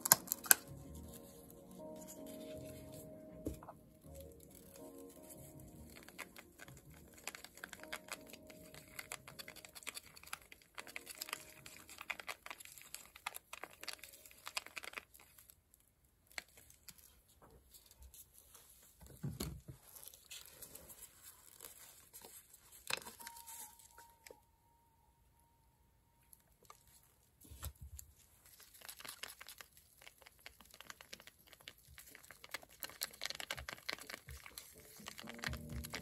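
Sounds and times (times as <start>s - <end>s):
plastic glove crinkling: 0.0s - 24.4s, 26.4s - 36.0s.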